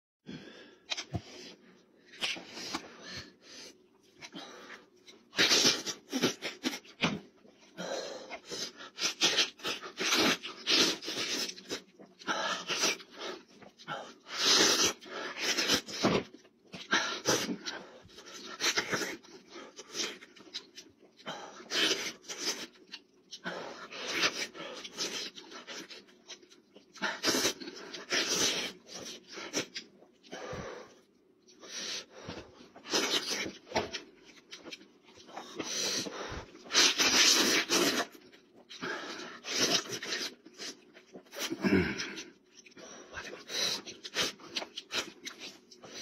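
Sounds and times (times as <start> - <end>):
man chewing wetly: 8.3 - 46.0.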